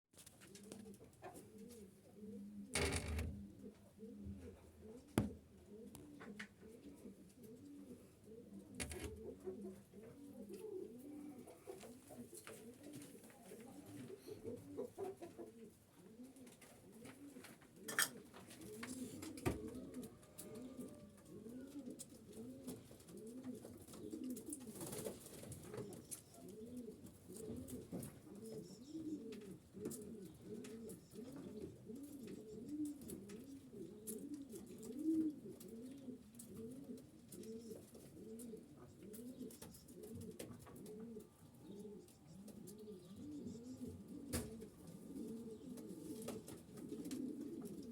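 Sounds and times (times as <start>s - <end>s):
pigeons cooing: 0.4s - 47.9s.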